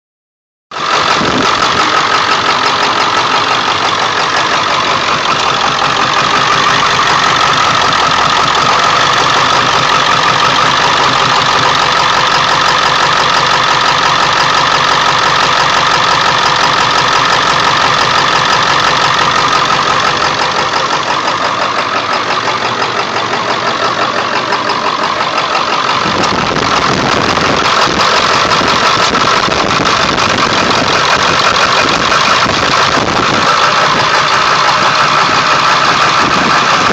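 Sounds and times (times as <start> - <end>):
diesel engine idling: 0.7 - 36.9.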